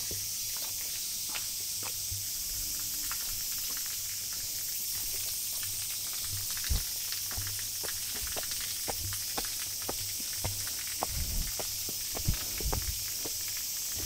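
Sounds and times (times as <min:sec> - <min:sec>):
high-pitched hiss: 0:00.0 - 0:14.0
footsteps with crisp clicks: 0:00.6 - 0:02.0, 0:03.6 - 0:14.0.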